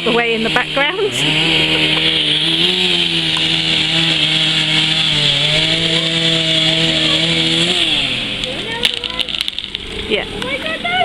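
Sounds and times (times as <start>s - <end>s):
chainsaw cutting at full throttle: 0.0s - 11.0s.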